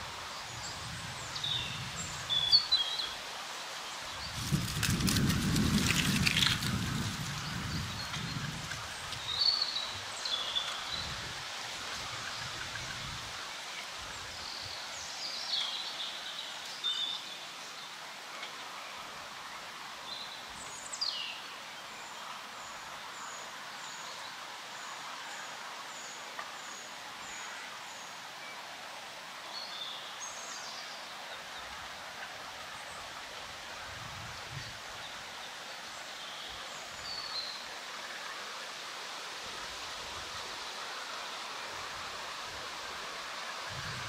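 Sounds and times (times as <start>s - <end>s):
songbirds calling: 0.0s - 28.6s, 29.4s - 44.0s
wind rustling leaves: 0.0s - 44.0s.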